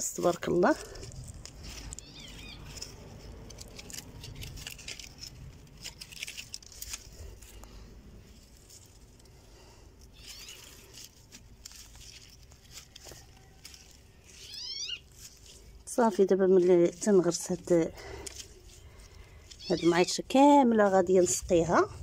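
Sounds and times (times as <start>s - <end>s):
hands rustling in soil: 0.0s - 22.0s.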